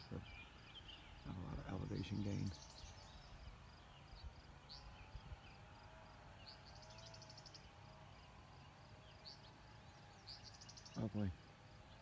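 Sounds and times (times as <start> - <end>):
songbird calls: 0.0 - 5.6, 6.4 - 12.0.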